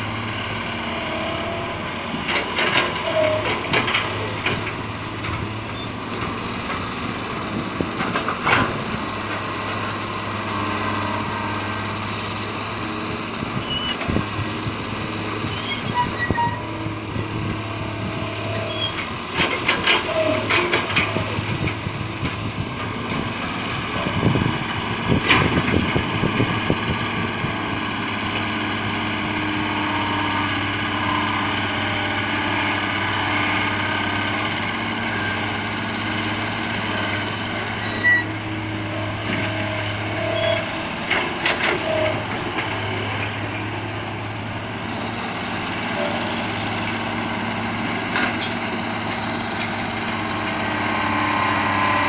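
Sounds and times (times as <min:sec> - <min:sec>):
diesel engines running: 0:00.0 - 0:52.0
dump truck driving: 0:00.0 - 0:52.0
excavator working: 0:00.0 - 0:52.0.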